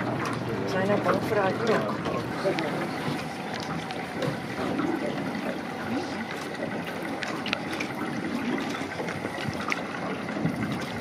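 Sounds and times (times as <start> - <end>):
water sloshing around boat: 0.0 - 11.0.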